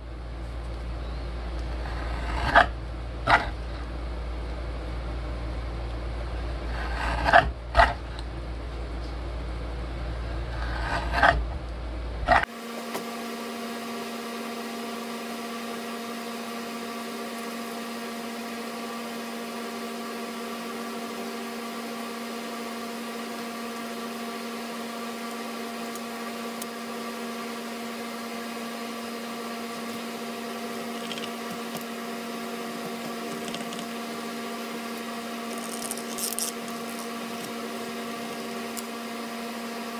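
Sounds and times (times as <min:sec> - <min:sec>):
motor hum: 0:00.0 - 0:39.9.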